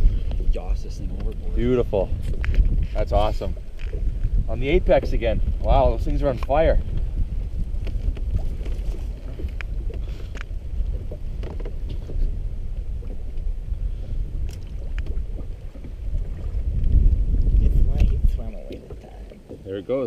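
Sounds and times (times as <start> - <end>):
steady low rumble: 0.0 - 19.6
water splashing against boat: 0.0 - 20.0.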